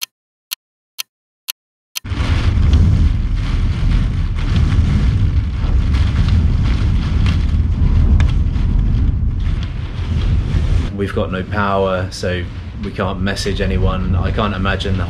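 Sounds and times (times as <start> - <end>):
storm wind: 2.0 - 15.0
rain against a window: 2.1 - 15.0
wind rumble on microphone: 2.1 - 15.0.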